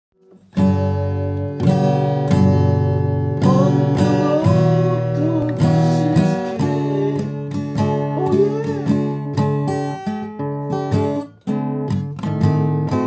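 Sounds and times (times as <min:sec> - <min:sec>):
acoustic guitar strumming: 0:00.2 - 0:13.0.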